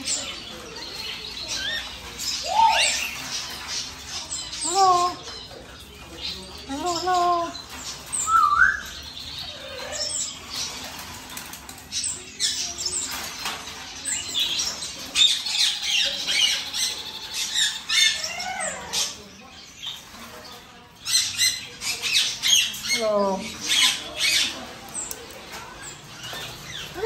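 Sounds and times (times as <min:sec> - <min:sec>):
baby parrots squawking and chirping: 0:00.0 - 0:27.0.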